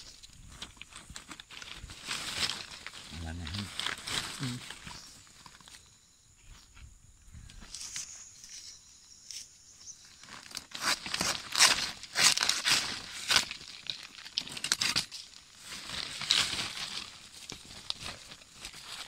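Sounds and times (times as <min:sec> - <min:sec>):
palm flowers rustling and crunching: 0:00.0 - 0:19.0.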